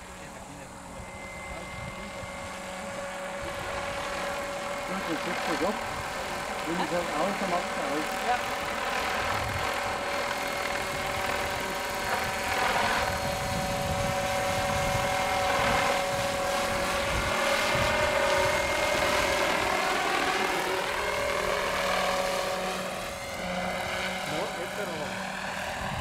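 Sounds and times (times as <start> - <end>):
model helicopter motor whine: 0.0 - 26.0.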